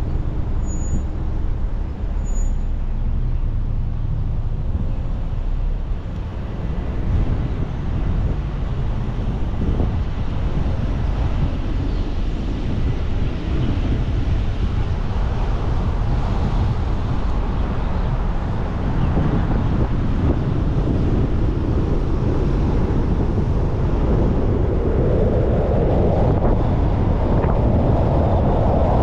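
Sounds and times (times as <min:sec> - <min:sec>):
car road rumble: 0:00.0 - 0:29.0
wind rushing over microphone: 0:00.0 - 0:29.0.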